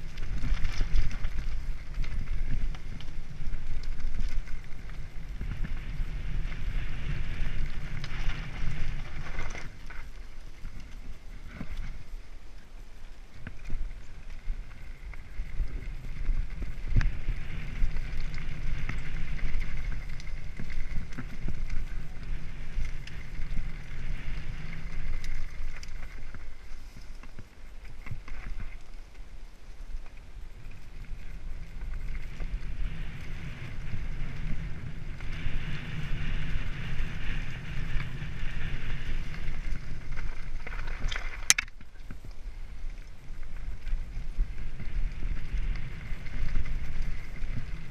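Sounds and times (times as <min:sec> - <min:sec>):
bike tyres rumbling on dirt: 0:00.0 - 0:47.9.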